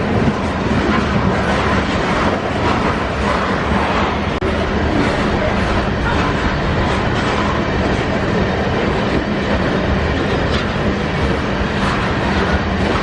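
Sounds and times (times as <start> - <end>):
freight train rolling past: 0.0 - 13.0
wheels clickety-clack on rail: 0.0 - 13.0.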